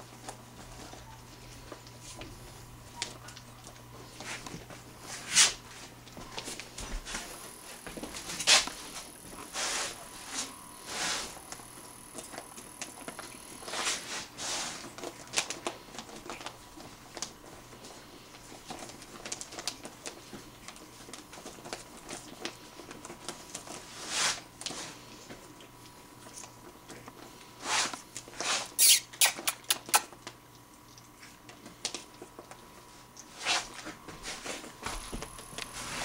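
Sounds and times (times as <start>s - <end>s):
puppies suckling and shuffling: 0.0s - 36.0s.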